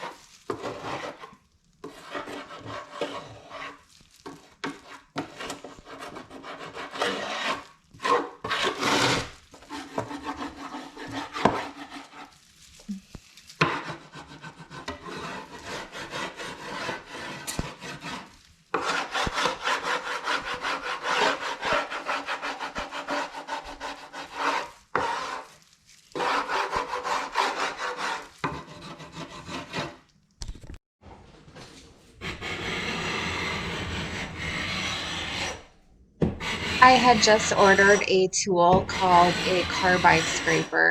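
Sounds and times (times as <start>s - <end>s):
hand scraper scraping wood: 0.0s - 12.4s, 13.6s - 30.1s, 31.6s - 40.9s.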